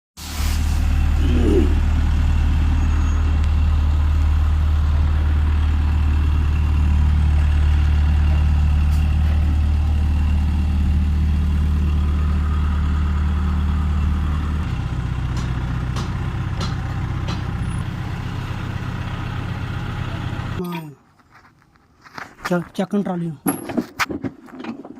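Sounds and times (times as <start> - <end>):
diesel truck engine idling: 0.5 - 20.6.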